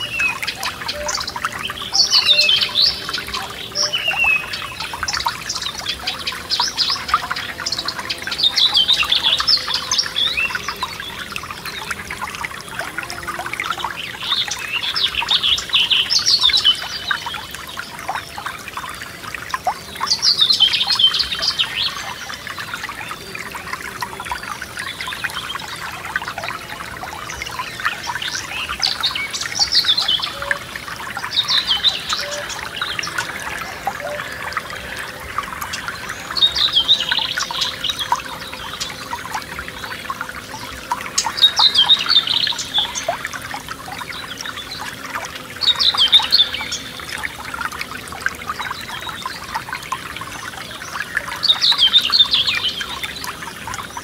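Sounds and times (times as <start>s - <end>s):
songbird singing: 0.0s - 54.0s
stream trickling and splashing: 0.0s - 54.0s.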